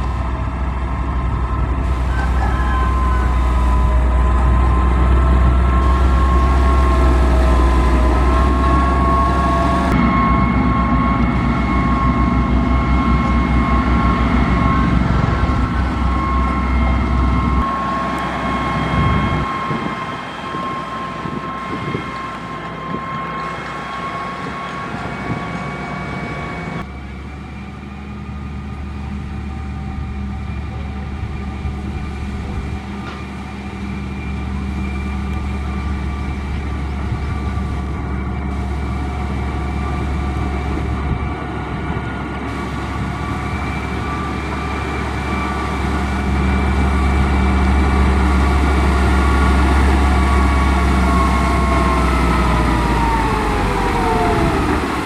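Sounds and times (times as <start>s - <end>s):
high machine whine: 0.0s - 28.3s, 29.5s - 55.0s
construction machine engine drone: 0.0s - 55.0s.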